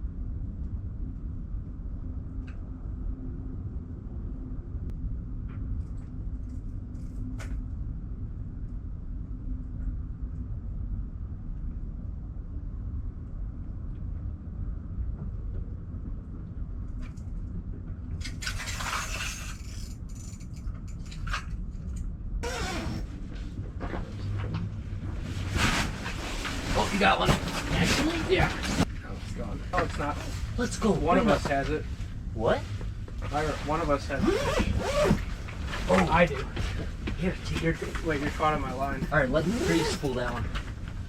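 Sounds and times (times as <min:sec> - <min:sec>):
low rumble: 0:00.0 - 0:18.4, 0:19.4 - 0:41.0.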